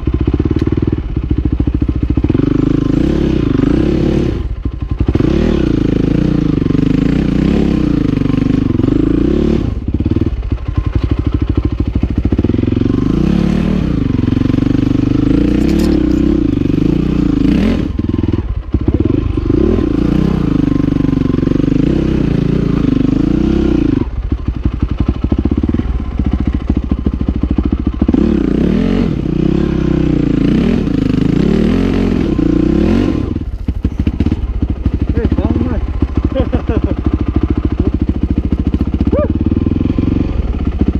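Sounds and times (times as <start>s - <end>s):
dirt bike engine revving: 2.1s - 40.9s.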